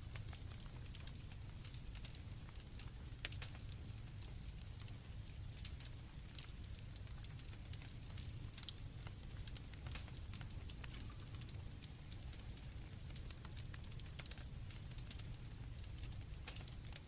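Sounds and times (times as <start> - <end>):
campfire crackling and popping: 0.0 - 17.0
crickets chirping: 0.1 - 17.0.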